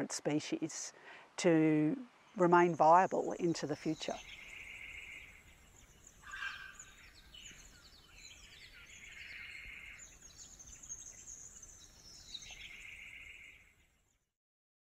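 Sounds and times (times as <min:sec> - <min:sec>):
small birds chirping: 0:01.9 - 0:14.3.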